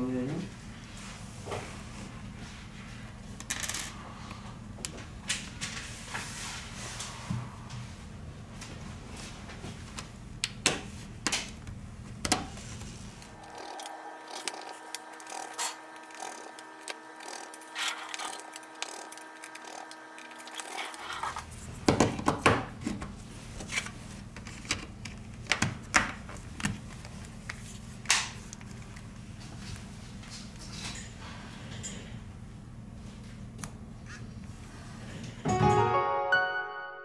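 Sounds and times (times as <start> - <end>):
steady multi-tone hum: 0.0 - 36.0.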